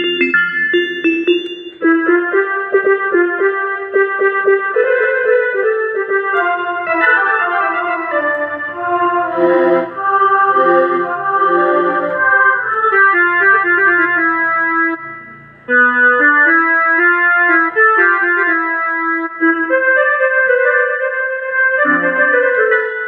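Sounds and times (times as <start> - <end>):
electronic keyboard melody: 0.0 - 23.0.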